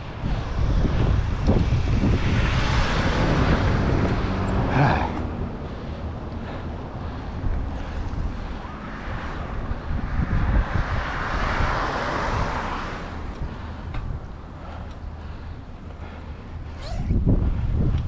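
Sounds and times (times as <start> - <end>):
passing traffic rumble: 0.0 - 18.0
wind buffeting microphone: 0.0 - 18.0.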